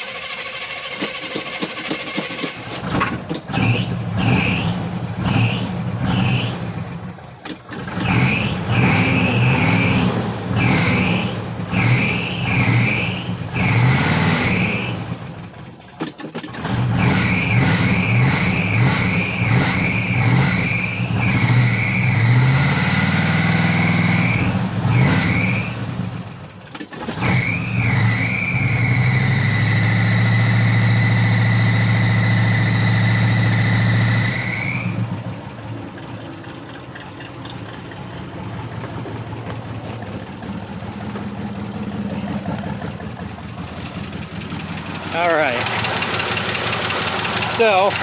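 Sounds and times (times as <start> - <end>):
engine revving: 0.0 - 15.7, 16.4 - 35.4, 37.7 - 48.0.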